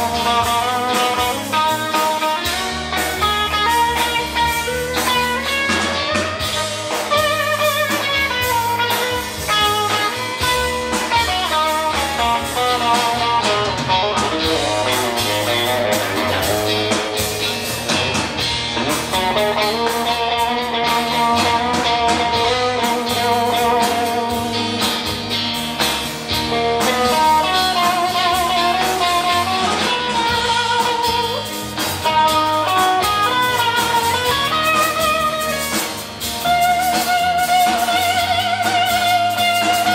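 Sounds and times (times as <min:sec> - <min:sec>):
electric guitar: 0:00.0 - 0:39.9
live rock band playing: 0:00.0 - 0:39.9.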